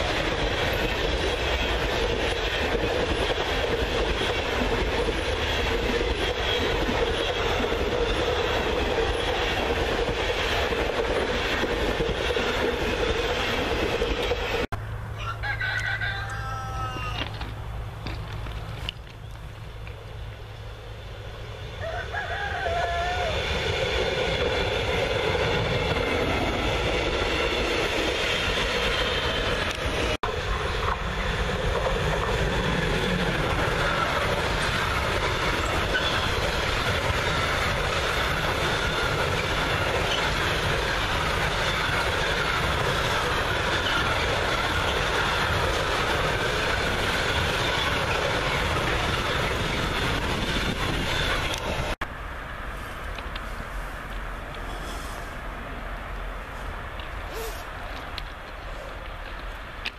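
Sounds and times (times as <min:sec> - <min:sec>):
freight train rolling past: 0:00.0 - 0:59.9
passenger train passing: 0:00.0 - 0:59.9.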